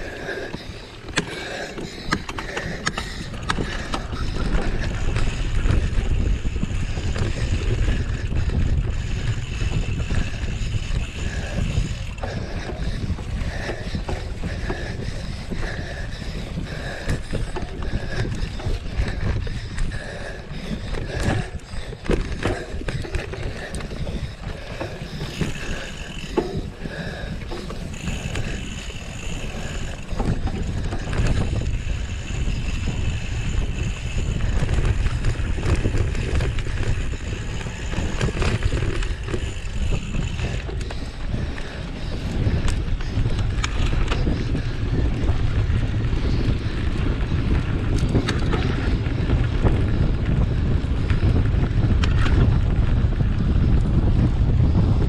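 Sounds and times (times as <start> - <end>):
wind rumbling on microphone: 0.0 - 55.0
bike knocks and rattles: 0.3 - 53.1.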